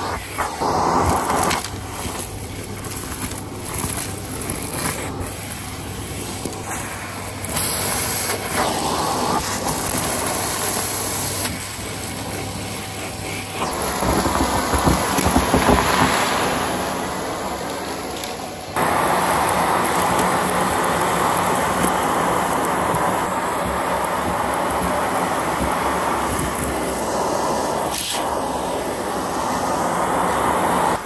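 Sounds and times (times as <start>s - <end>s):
stick vacuum suction rush: 0.0s - 31.0s.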